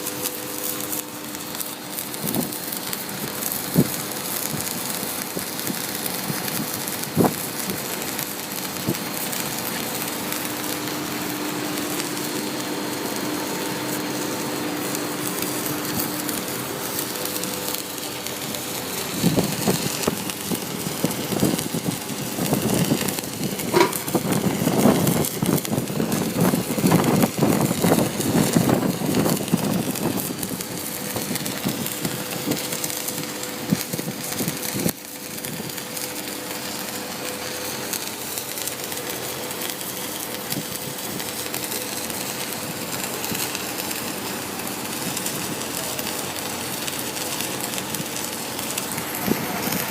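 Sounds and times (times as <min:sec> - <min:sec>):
welding arc hissing and crackling: 0:00.0 - 0:49.9
sharp pops and spatter: 0:00.1 - 0:13.4, 0:14.7 - 0:49.9.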